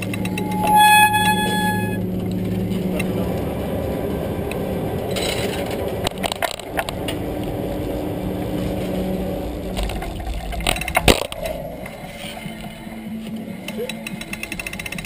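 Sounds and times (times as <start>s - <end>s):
chairlift machinery humming: 0.0s - 15.0s.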